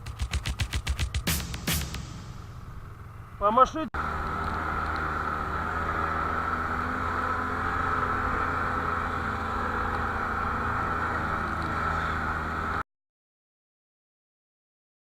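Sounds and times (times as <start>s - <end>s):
snowmobile engine droning: 0.0s - 12.8s.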